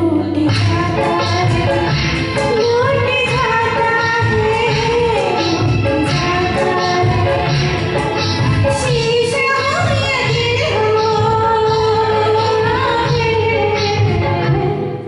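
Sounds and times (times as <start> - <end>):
karaoke backing track: 0.0 - 15.0
woman singing into microphone: 0.0 - 15.0.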